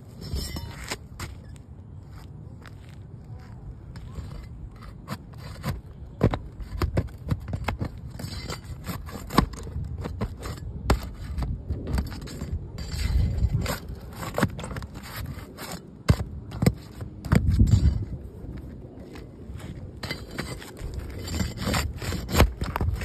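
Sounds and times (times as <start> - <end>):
pry bar scraping on shingles: 3.4 - 23.0.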